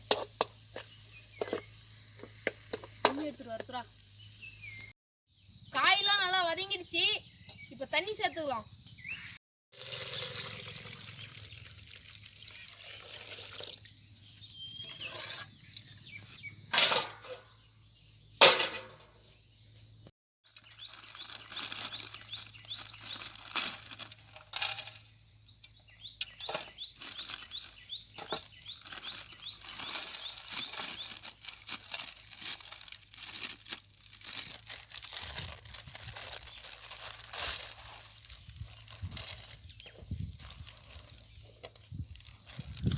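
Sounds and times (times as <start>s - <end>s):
insects chirping: 0.0s - 42.9s.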